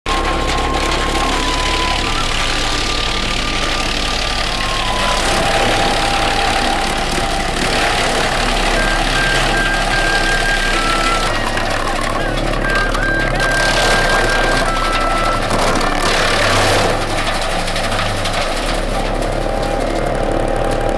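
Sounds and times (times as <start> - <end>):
wood chipper chipping branches: 0.1 - 20.9.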